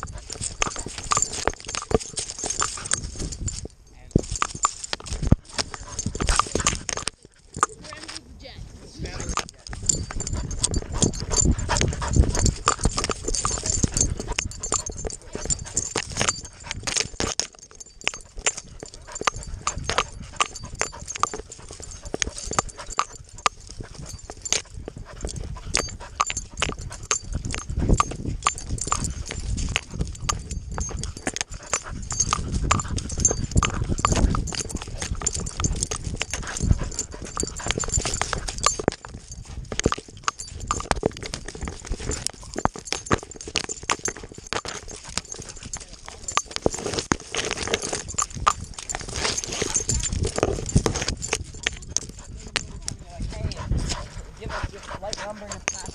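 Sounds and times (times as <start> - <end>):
dog panting: 0.0 - 3.5, 4.4 - 8.0, 9.0 - 48.2, 48.8 - 55.9
dog paws thumping: 0.0 - 8.3, 9.0 - 55.9.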